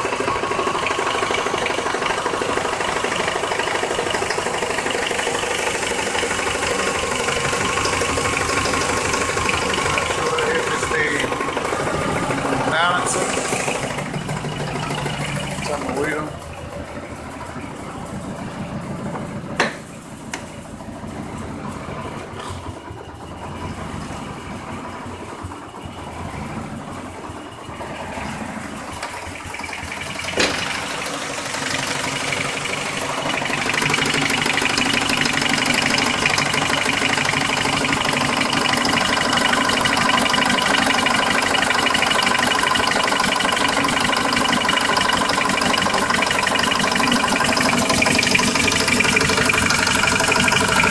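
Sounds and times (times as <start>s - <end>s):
car engine idling: 0.0s - 50.9s
engine ticking: 0.0s - 50.9s.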